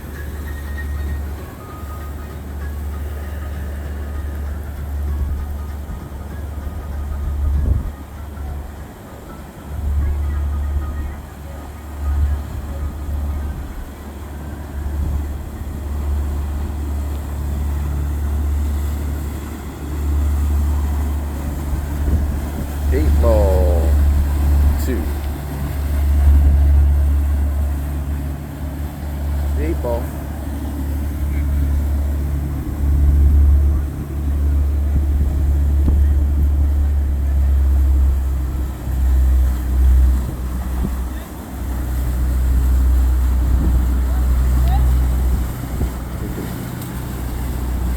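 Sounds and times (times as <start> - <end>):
motorboat engines rumbling: 0.0 - 47.9.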